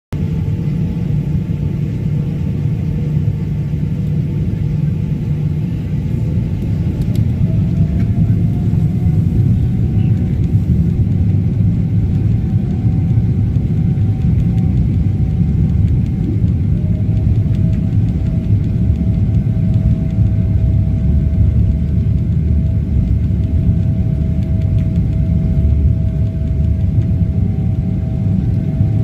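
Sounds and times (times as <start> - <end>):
faint engine whine: 0.1 - 29.0
jet engine low rumble: 0.1 - 29.0.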